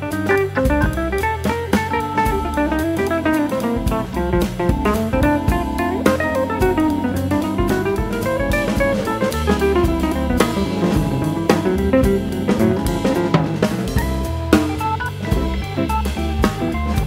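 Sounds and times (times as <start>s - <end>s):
bass line: 0.0s - 17.0s
drum kit beat: 0.0s - 17.0s
quick melody runs: 0.8s - 17.0s.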